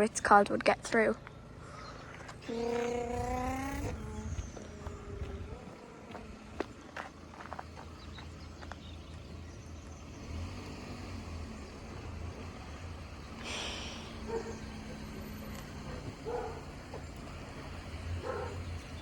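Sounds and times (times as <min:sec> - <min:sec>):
vehicle engines rumbling: 0:00.0 - 0:19.0.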